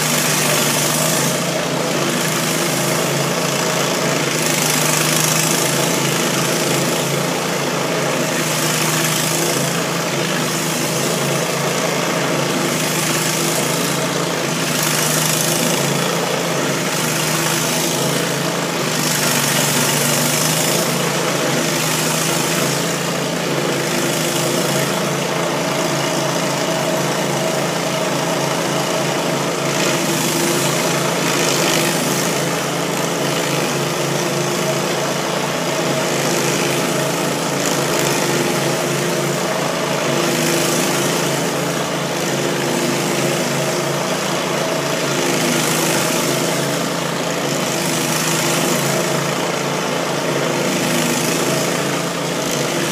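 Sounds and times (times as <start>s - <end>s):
stump grinder engine running: 0.0s - 52.9s.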